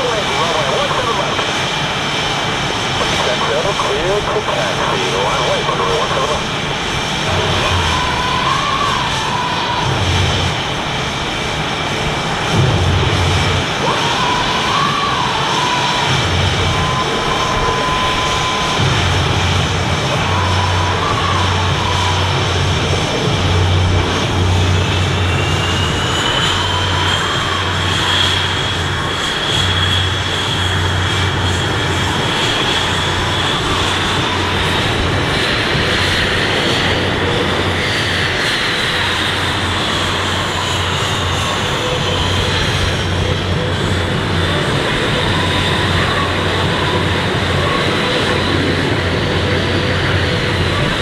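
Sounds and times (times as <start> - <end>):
jet engines with high whine: 0.0 - 51.0.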